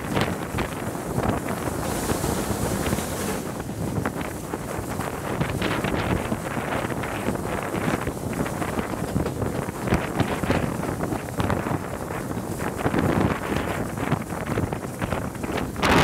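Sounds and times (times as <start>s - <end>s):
steam train running: 0.0s - 16.0s
wind buffeting microphone: 0.0s - 16.0s.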